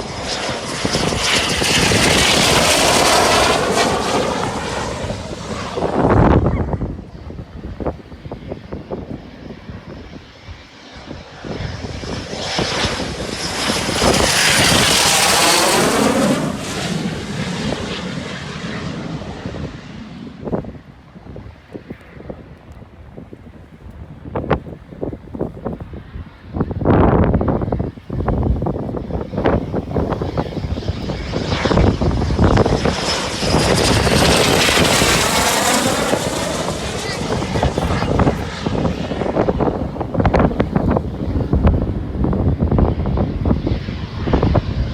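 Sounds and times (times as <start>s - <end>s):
jet engine whining: 0.0s - 44.9s
wind buffeting microphone: 0.0s - 44.9s.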